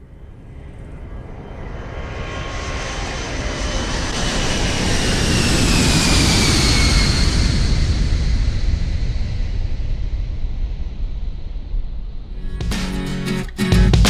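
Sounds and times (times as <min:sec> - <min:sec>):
jet aircraft engine roar: 0:00.0 - 0:12.5.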